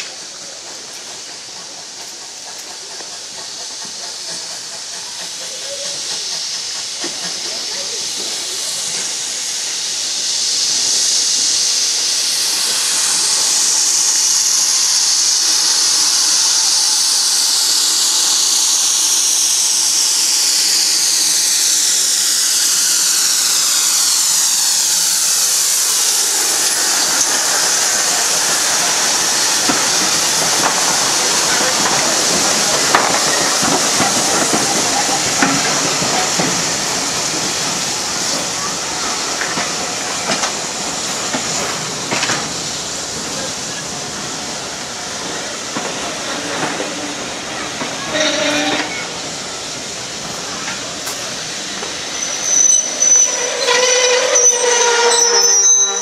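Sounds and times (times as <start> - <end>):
steam locomotive hissing steam: 0.0 - 56.0.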